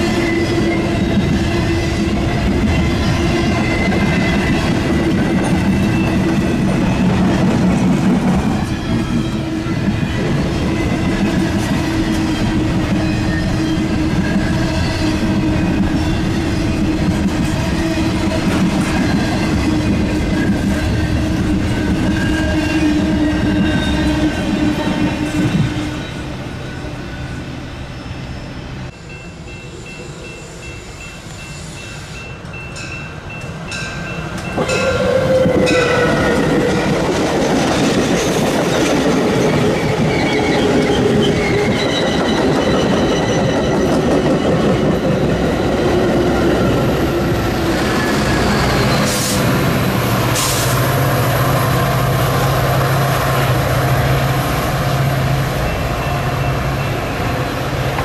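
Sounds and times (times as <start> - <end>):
freight train rolling past: 0.0 - 58.0
train wheels rumbling and squealing: 0.0 - 58.0.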